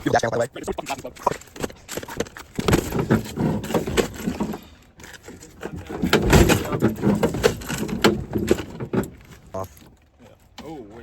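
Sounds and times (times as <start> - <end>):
irregular knocks and scrapes: 0.8 - 10.7.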